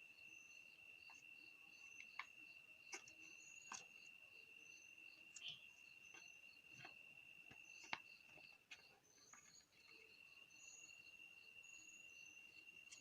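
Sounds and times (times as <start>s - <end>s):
insects chirring: 0.0s - 13.0s
pulsing insect chirp: 0.1s - 13.0s.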